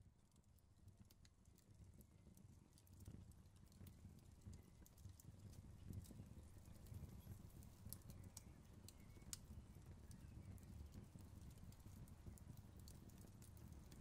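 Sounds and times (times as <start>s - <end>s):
wood fire crackling: 0.3s - 14.0s.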